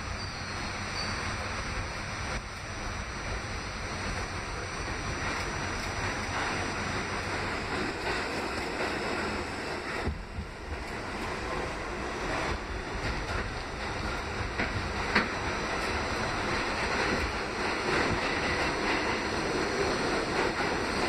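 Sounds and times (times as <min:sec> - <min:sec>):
subway wheels rumbling on rail: 0:00.0 - 0:21.0
wheels clicking over rail joints: 0:04.1 - 0:21.0.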